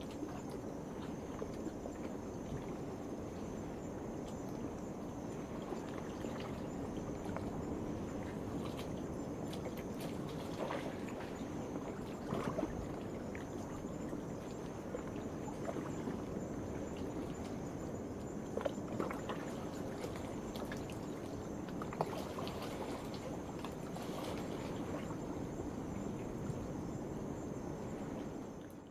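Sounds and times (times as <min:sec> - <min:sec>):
night insects chorus: 0:00.0 - 0:28.9.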